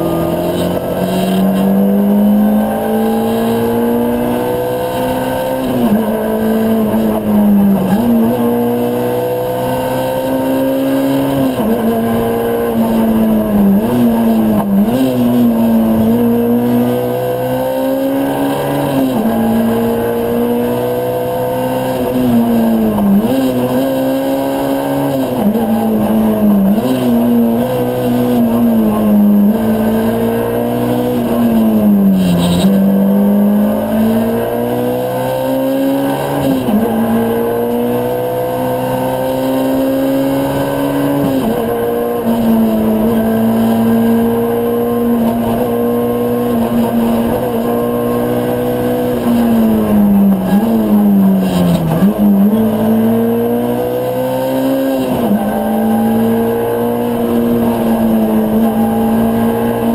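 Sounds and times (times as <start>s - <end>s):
car engine revving through gears: 0.0s - 59.9s.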